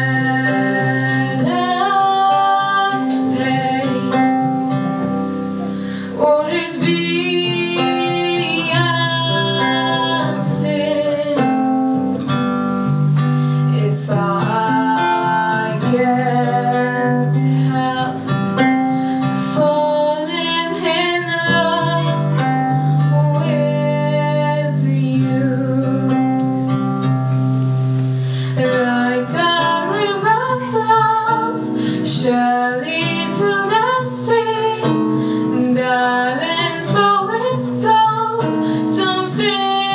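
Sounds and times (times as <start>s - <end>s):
woman singing into microphone: 0.0s - 12.9s, 13.5s - 27.4s, 28.3s - 39.9s
instrumental accompaniment: 0.0s - 39.9s.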